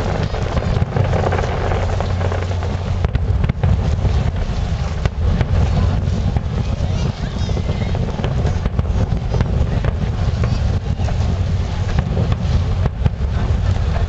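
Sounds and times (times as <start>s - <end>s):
fireworks booms and cracks: 0.0s - 14.0s
low rumble: 0.0s - 14.0s.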